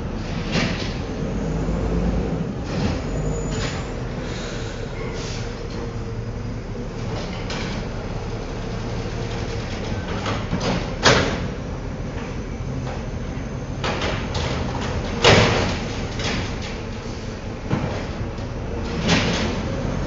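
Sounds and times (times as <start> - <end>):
garbage truck running: 0.0 - 20.0.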